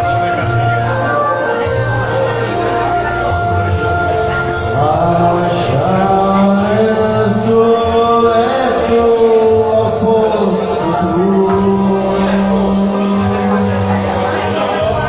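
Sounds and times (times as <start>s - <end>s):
man singing into microphone: 0.0s - 15.0s
music with steady beat: 0.0s - 15.0s.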